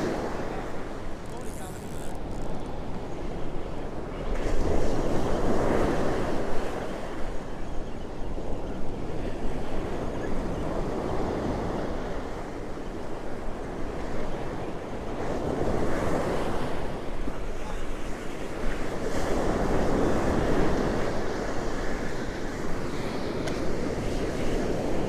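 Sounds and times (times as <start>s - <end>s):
ocean surf breaking on beach: 0.0s - 25.0s.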